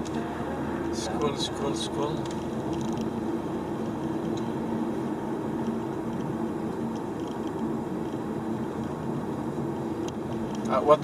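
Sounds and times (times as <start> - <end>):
engine and road drone: 0.0 - 11.0.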